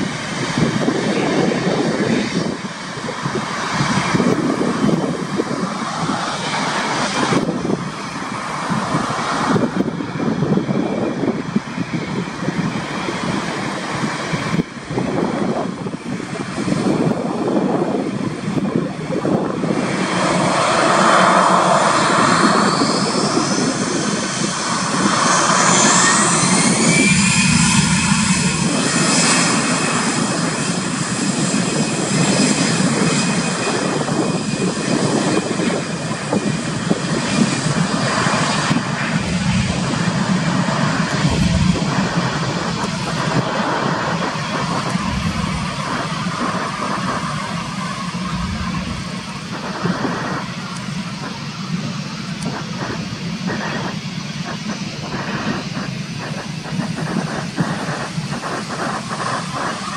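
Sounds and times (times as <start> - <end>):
jet engines spooling up: 0.0 - 59.9.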